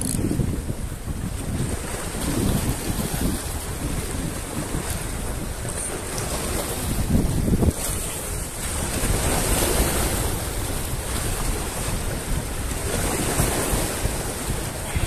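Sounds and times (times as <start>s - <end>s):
waves breaking on rocks: 0.0s - 15.0s
wind buffeting microphone: 0.0s - 15.0s.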